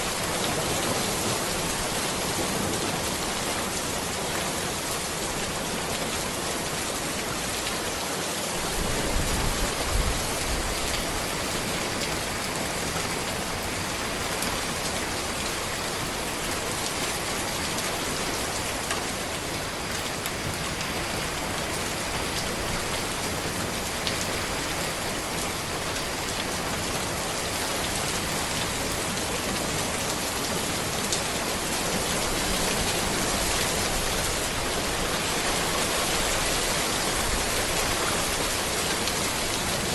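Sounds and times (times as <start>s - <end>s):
rain falling on road: 0.0s - 39.9s.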